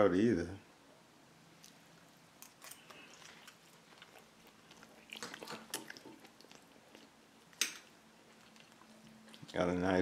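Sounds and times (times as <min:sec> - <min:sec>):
person chewing food: 0:01.6 - 0:09.6.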